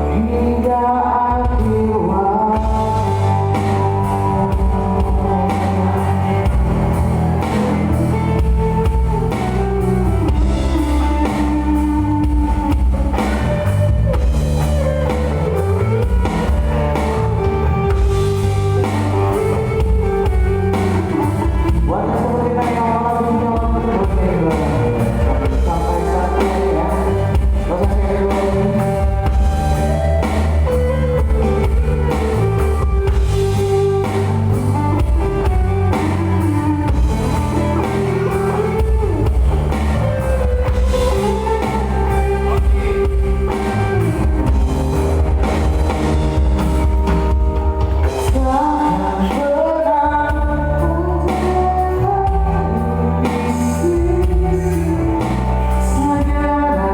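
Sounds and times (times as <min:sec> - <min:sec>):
person singing: 0:00.0 - 0:56.9
band playing a song: 0:01.3 - 0:56.9.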